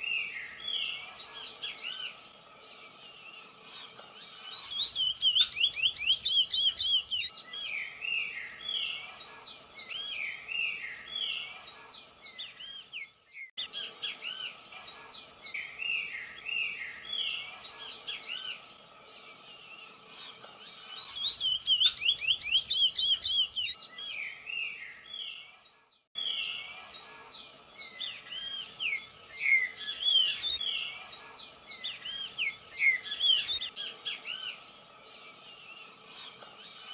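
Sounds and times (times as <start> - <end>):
birds chirping and trilling: 0.0 - 36.9.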